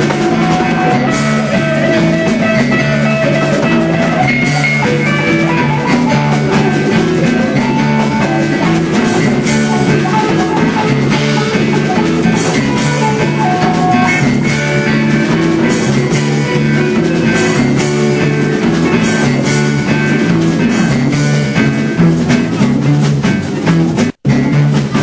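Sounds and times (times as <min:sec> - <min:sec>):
drum kit: 0:00.0 - 0:25.0
electric guitar: 0:00.0 - 0:25.0
keyboard: 0:00.0 - 0:25.0.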